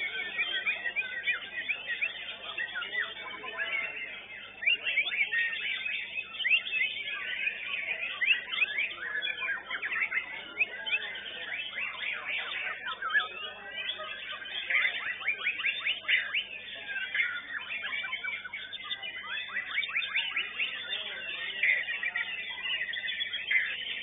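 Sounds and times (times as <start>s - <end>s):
birds singing whistled trills: 0.0s - 24.0s.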